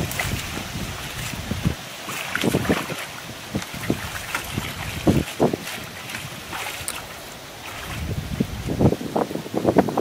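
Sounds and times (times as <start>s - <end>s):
muddy water splashing: 0.0s - 9.6s.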